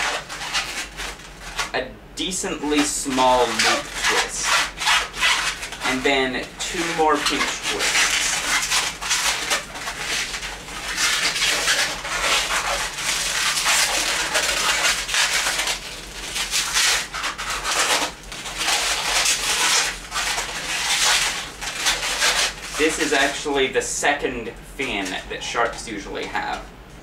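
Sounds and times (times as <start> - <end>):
latex balloons rubbing: 0.0 - 24.0.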